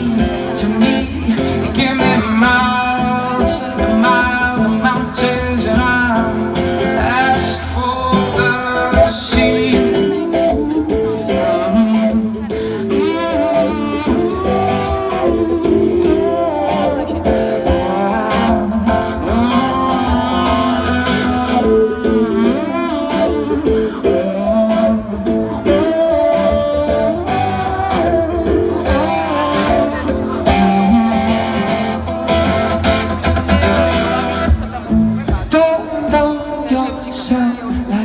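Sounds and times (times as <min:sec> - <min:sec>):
person singing wordless melody: 0:00.0 - 0:32.8, 0:35.3 - 0:38.0
strummed acoustic guitar: 0:00.0 - 0:38.0.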